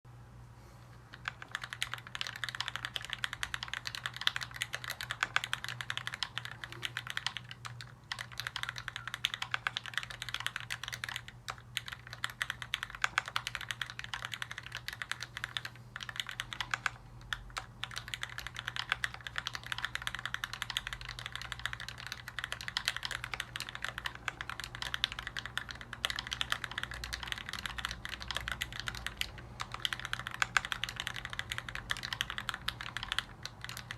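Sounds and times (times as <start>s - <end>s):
mechanical keyboard typing: 1.1s - 33.9s.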